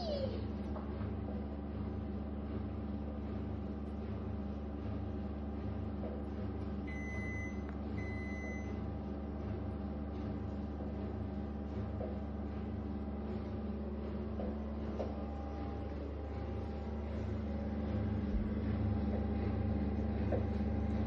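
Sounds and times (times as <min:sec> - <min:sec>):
low appliance hum: 0:00.0 - 0:21.0.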